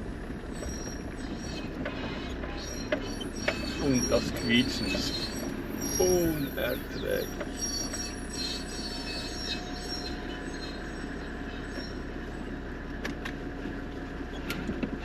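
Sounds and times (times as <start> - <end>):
brakes squealing: 0.0 - 15.0
engine running: 0.0 - 15.0
road noise: 0.0 - 15.0.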